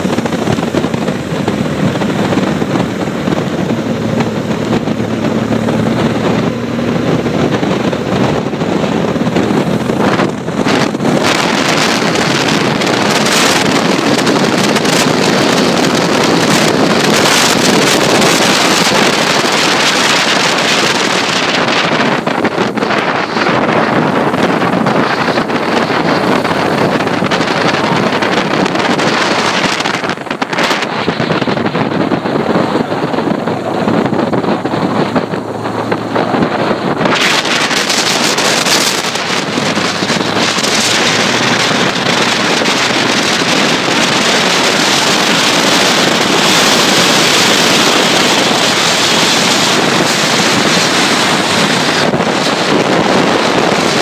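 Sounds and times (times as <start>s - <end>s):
motorcycle engine: 0.0s - 54.0s
tyres on road: 0.0s - 54.0s
wind buffeting microphone: 0.0s - 54.0s.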